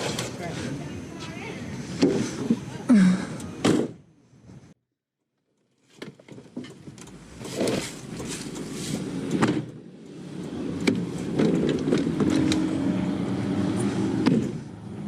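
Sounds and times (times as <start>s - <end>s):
vehicle engine and road noise: 0.0s - 4.8s, 5.4s - 15.0s.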